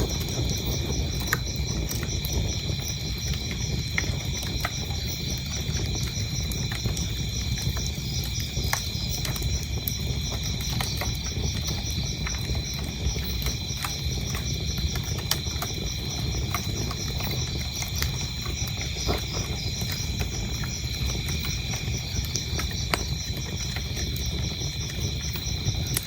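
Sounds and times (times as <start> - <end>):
crickets chirping: 0.0 - 26.0
wood fire crackling: 0.0 - 26.0.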